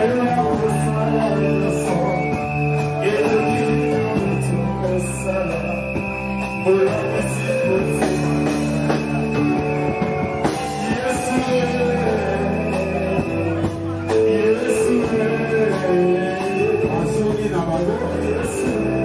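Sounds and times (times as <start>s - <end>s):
person singing: 0.0s - 9.7s, 10.4s - 19.0s
guitar and drums band music: 0.0s - 19.0s.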